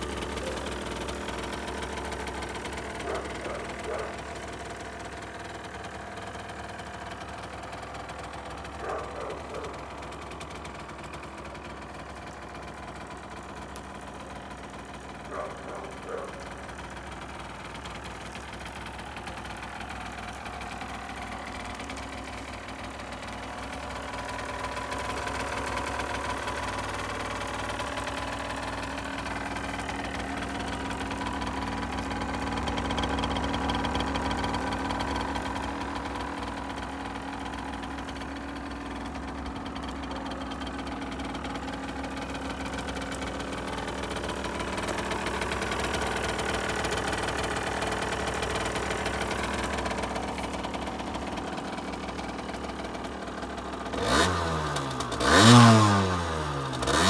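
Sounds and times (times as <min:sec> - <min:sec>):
two-stroke engine idling: 0:00.0 - 0:57.0.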